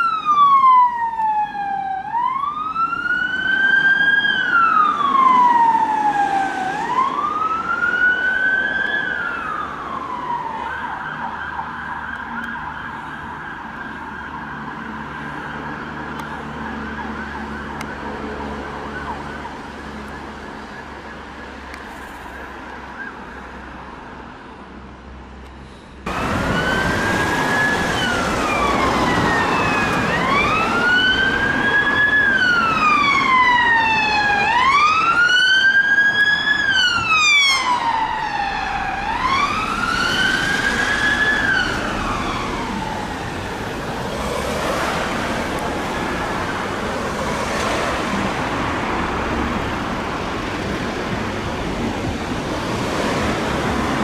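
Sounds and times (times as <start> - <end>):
emergency siren wailing: 0.0 - 23.8, 26.1 - 54.0
road traffic noise: 0.0 - 54.0.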